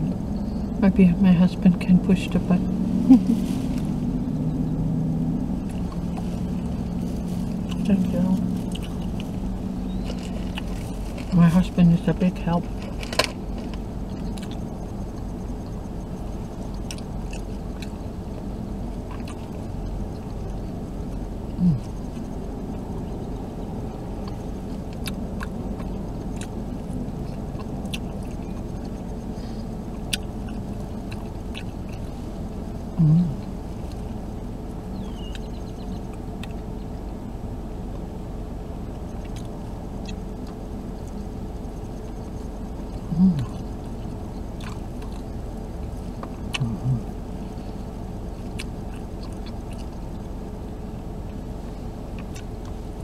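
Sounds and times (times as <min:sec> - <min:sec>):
closed-mouth hums: 0:00.0 - 0:13.0, 0:14.1 - 0:34.1, 0:39.0 - 0:50.3
low car cabin hum: 0:00.0 - 0:53.0
person chewing soft bun: 0:05.6 - 0:11.4, 0:12.7 - 0:34.1, 0:34.9 - 0:37.1, 0:38.9 - 0:53.0.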